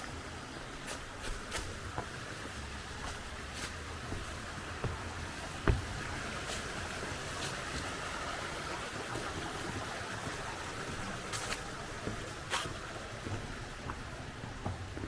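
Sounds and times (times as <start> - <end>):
stream running: 0.0 - 15.0.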